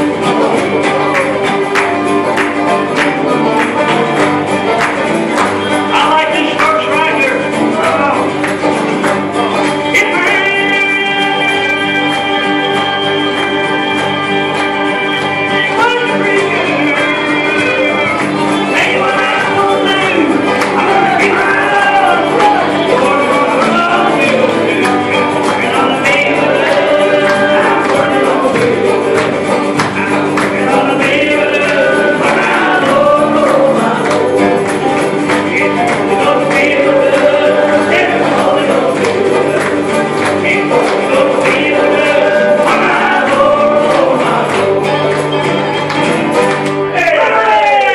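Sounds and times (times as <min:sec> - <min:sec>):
group singing gospel song: 0:00.0 - 0:47.9
strummed acoustic guitars: 0:00.0 - 0:47.9.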